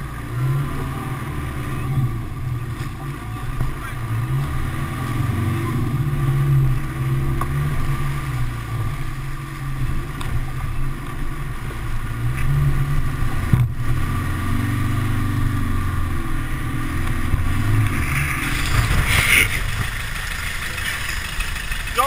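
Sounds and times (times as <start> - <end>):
engine running under load: 0.0 - 22.0.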